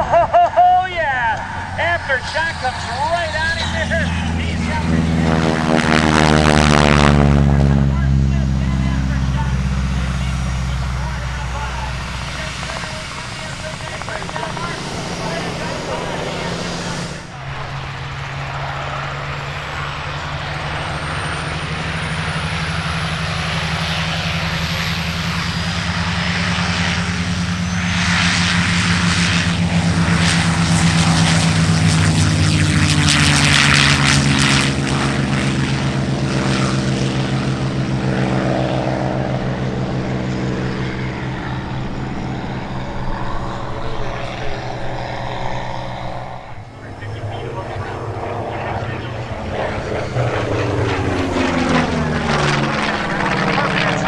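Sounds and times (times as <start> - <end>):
propeller aircraft engines drone: 0.0 - 54.0.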